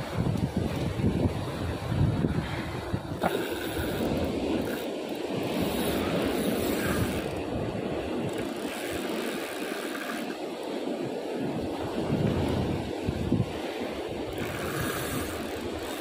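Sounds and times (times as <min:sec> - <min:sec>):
ocean surf rushing: 0:00.0 - 0:16.0
wind on microphone: 0:00.0 - 0:16.0.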